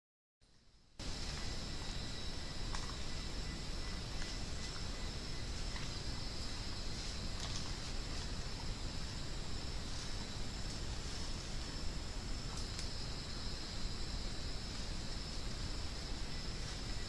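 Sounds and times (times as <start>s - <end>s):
insects droning: 0.4s - 17.0s
thin steady whine: 0.4s - 17.0s.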